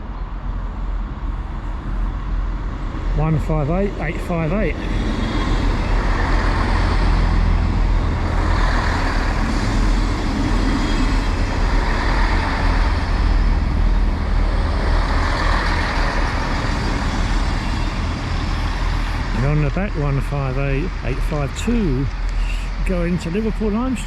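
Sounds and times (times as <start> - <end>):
diesel train engines rumbling: 0.0 - 24.0.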